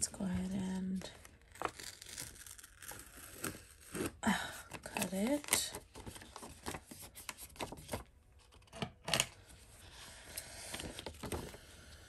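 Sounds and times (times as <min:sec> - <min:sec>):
soft paper handling: 0:00.0 - 0:04.1, 0:04.7 - 0:08.8, 0:09.4 - 0:12.0.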